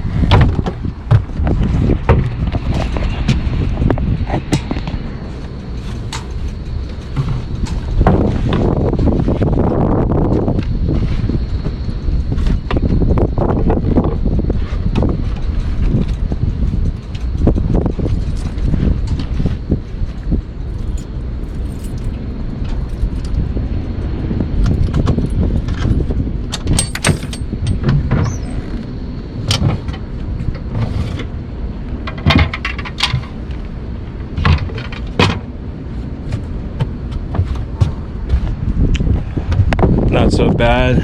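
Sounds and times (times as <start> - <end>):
wind rumble on microphone: 0.0 - 41.0.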